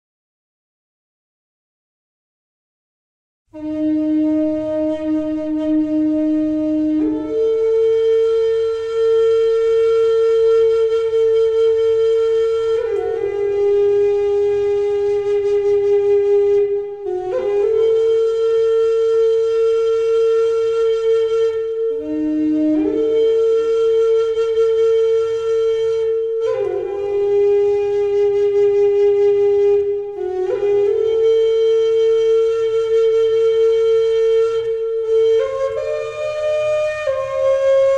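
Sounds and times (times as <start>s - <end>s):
breathy flute melody: 3.5s - 37.9s.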